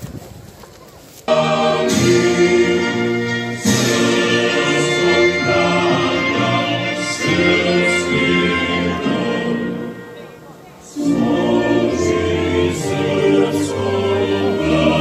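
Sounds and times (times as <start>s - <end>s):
choir singing held chords: 1.3s - 15.0s.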